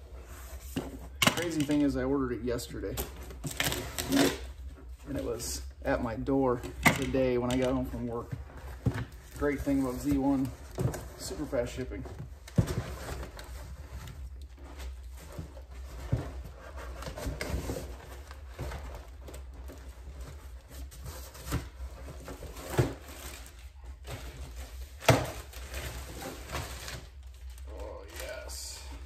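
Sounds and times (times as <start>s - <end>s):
plastic wrapping rustling: 0.2s - 29.0s.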